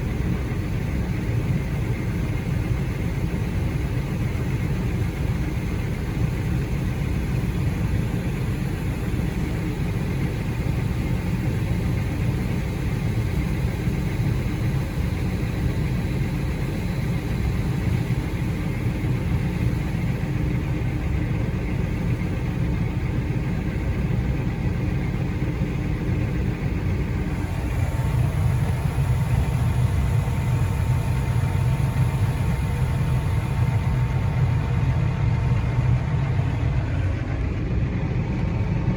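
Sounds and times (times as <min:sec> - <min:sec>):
steady higher whine: 0:00.0 - 0:38.9
vehicle engine running: 0:00.0 - 0:38.9.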